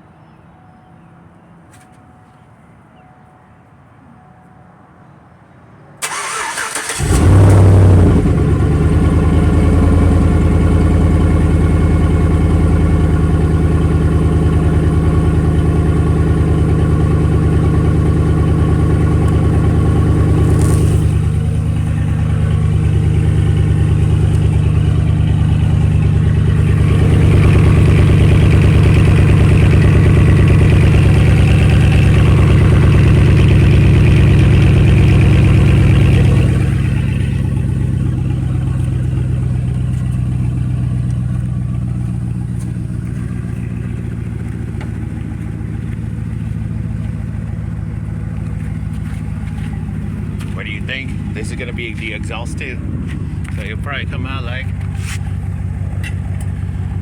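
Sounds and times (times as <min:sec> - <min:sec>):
car engine starting and idling: 0:06.0 - 0:57.0.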